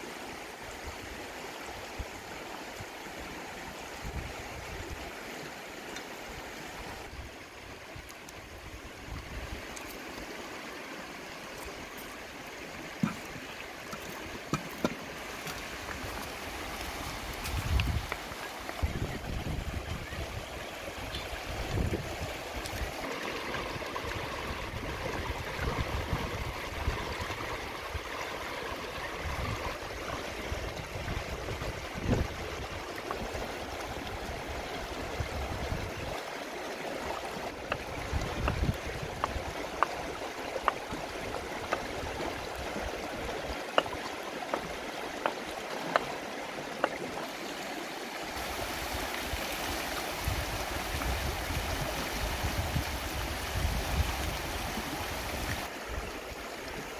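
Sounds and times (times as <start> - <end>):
river water running over rocks: 0.0 - 56.9.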